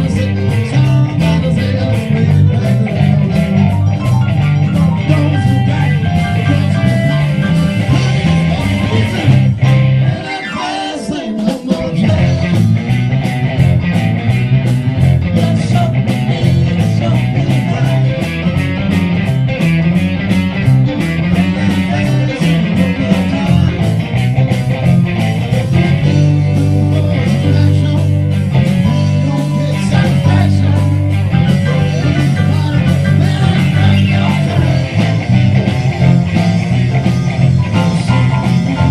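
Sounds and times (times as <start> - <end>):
rock music with guitar: 0.0 - 38.9.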